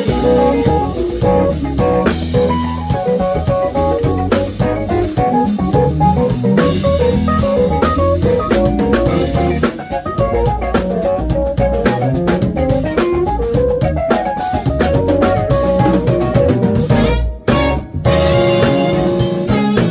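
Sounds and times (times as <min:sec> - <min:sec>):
lead guitar melody: 0:00.0 - 0:19.9
live jazz band playing: 0:00.0 - 0:19.9.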